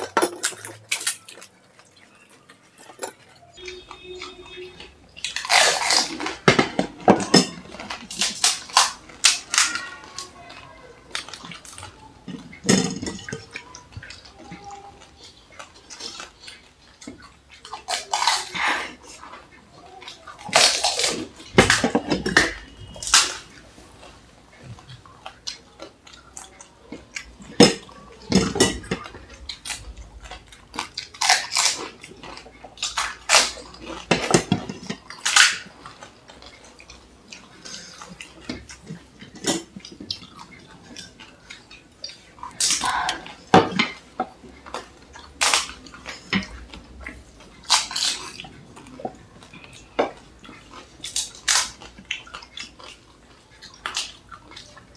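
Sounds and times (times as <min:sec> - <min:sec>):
crunching crisp food: 0:00.0 - 0:54.9
slurping and chewing: 0:00.0 - 0:54.9.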